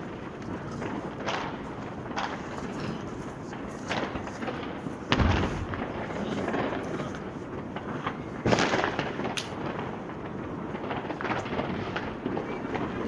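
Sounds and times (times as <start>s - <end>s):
firecracker pops and crackles: 0.0s - 13.0s
loud deep firework bangs: 0.0s - 13.0s.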